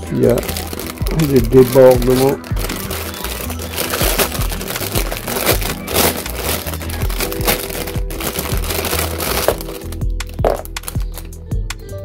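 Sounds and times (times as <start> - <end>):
plastic bag crinkling: 0.0 - 11.3
background music with steady beat: 0.0 - 12.0.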